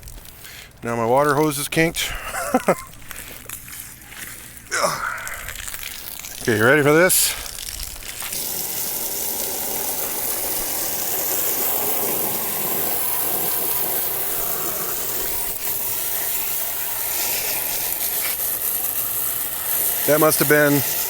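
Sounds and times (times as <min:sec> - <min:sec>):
water hose jet spraying: 0:00.0 - 0:21.0.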